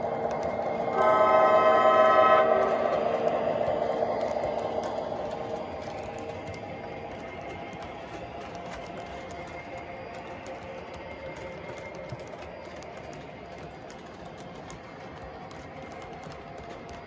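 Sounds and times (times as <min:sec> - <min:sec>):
model train wheels rolling: 0:00.0 - 0:17.0.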